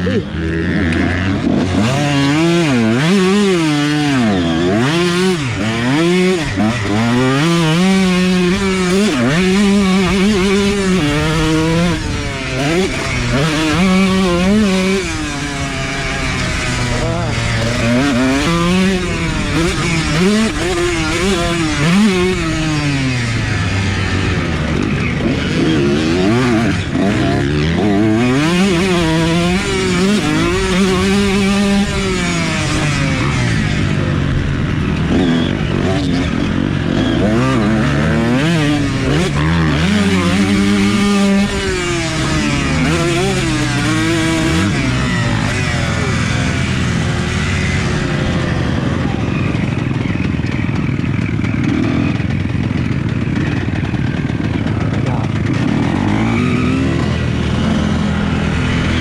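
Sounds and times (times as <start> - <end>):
dirt bike engine racing: 0.0 - 59.0.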